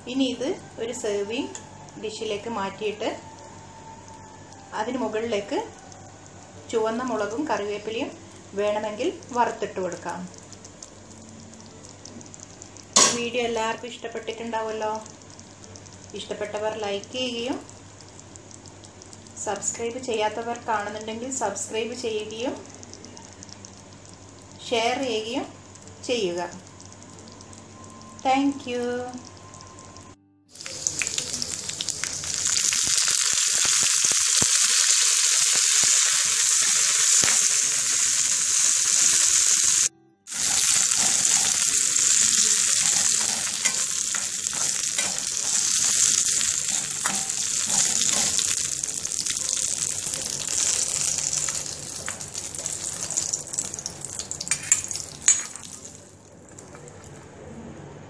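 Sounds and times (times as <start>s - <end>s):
chillies sizzling in hot oil: 0.0s - 29.8s, 30.5s - 57.1s.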